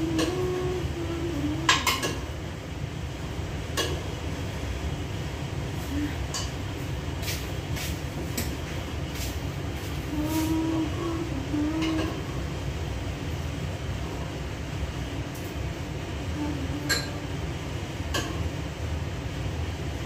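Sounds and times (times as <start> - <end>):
range hood fan rumble: 0.0 - 20.0.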